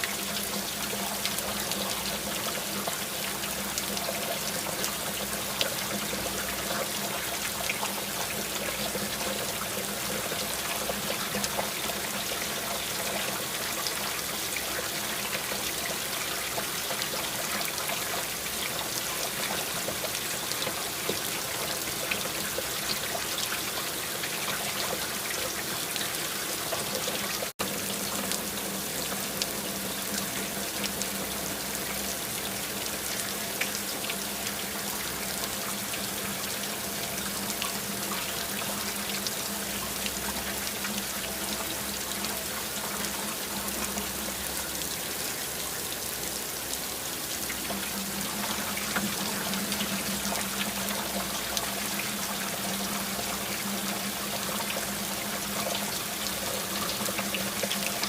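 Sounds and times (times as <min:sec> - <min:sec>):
rain falling and dripping: 0:00.0 - 0:58.0.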